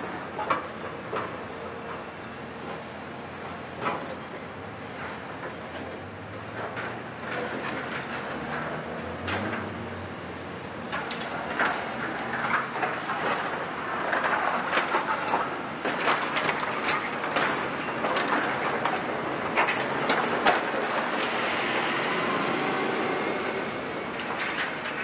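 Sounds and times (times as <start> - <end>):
excavator running: 0.0 - 25.0.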